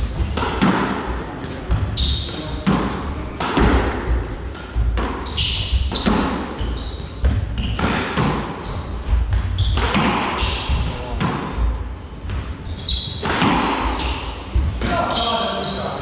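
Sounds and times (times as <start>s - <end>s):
squash ball hits: 0.0s - 15.2s
sneakers squeaking on wooden floor: 0.2s - 16.0s.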